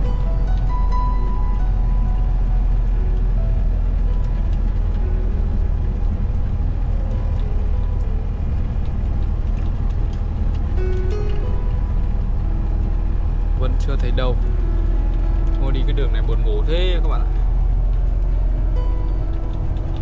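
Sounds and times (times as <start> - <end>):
melodic music: 0.0 - 9.2, 10.2 - 20.0
truck diesel engine droning: 0.0 - 20.0.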